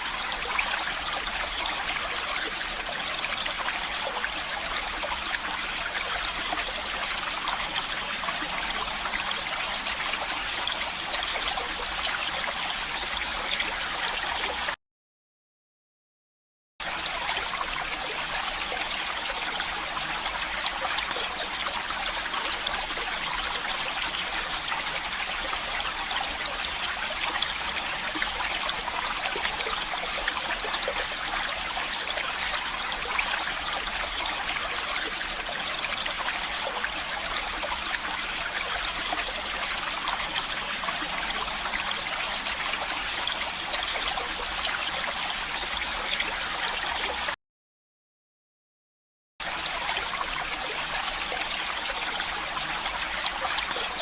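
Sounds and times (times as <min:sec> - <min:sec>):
stream water trickling and splashing: 0:00.0 - 0:14.8, 0:16.8 - 0:47.4, 0:49.4 - 0:54.0.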